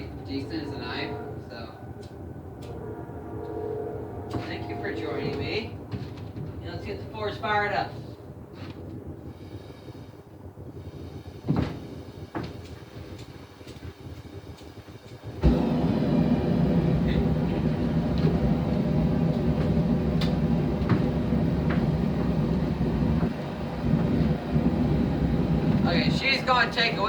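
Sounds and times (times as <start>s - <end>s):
forge running noise: 0.0s - 27.0s.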